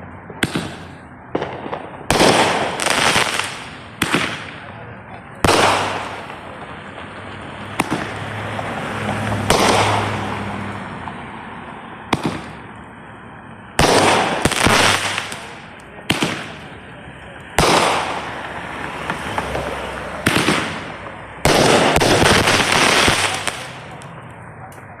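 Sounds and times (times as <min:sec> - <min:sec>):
firework bangs: 0:00.0 - 0:10.6, 0:12.1 - 0:12.8, 0:13.7 - 0:24.2
noisy firework tails: 0:00.0 - 0:10.8, 0:12.1 - 0:12.8, 0:13.7 - 0:24.2.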